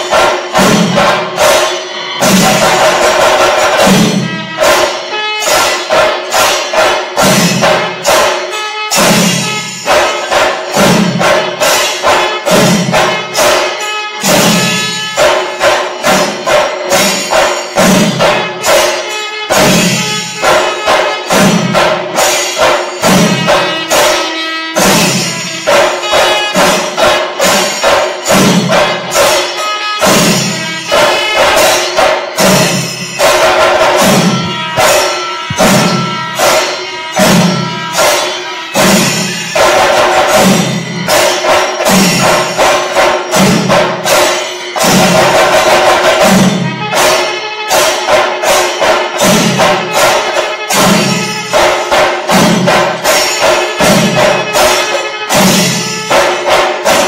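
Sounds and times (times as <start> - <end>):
cymbals clashing: 0.0 - 57.0
drum ensemble playing: 0.0 - 57.0.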